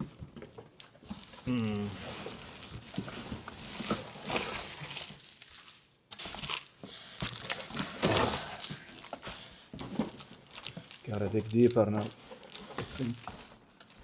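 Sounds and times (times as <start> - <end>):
box handling noises: 0.0 - 5.4, 6.1 - 14.0
packing material rustling in box: 0.1 - 14.0.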